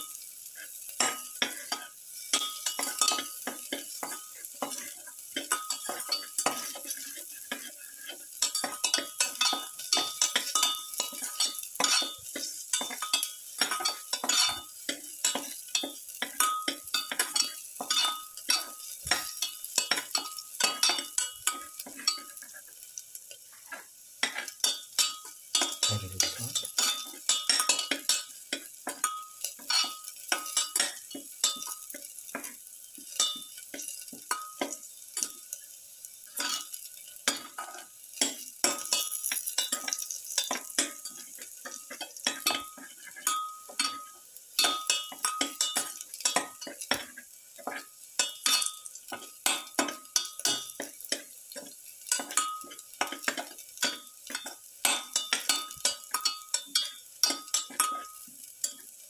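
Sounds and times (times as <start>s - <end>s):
light sizzle: 0.0s - 59.0s
spatula scraping and knocking pan: 0.6s - 35.6s, 36.2s - 59.0s.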